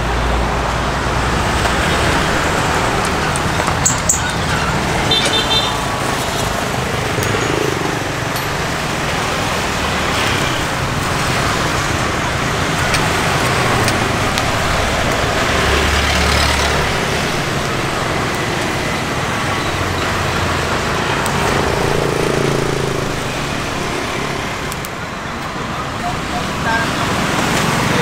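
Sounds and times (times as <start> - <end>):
passing vehicle engine hum: 0.0 - 24.8
road traffic: 0.0 - 28.0.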